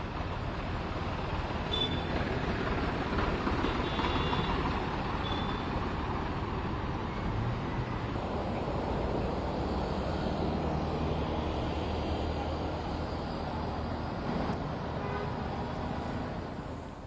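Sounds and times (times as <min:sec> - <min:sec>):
motorcycle and scooter traffic: 0:00.0 - 0:17.0.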